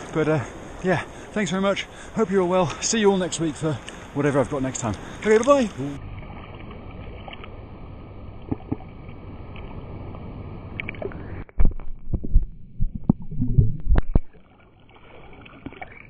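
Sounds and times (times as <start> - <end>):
sea water sloshing: 0.0 - 16.0.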